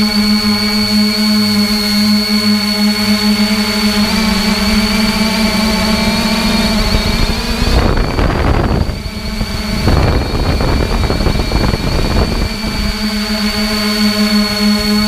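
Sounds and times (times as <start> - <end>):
drone motor whine: 0.0 - 15.0
wind rush on microphone: 0.0 - 15.0.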